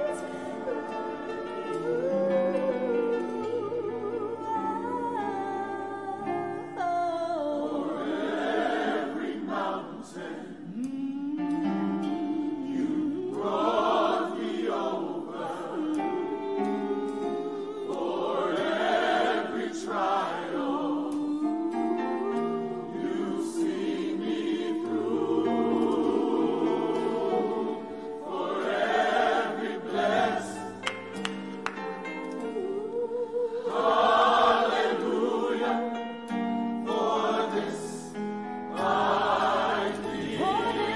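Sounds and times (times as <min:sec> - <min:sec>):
gospel choir singing: 0:00.0 - 0:40.9.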